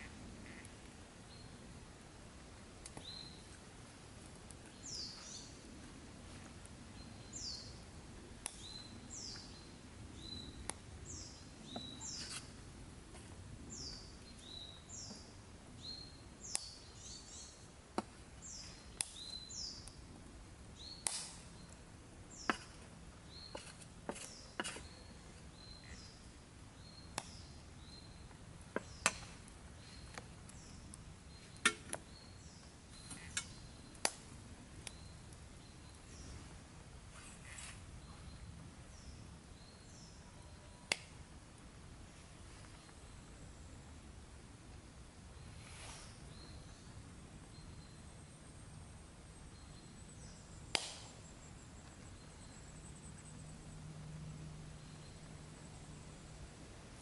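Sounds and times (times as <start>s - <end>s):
low steady background hiss: 0.0s - 57.0s.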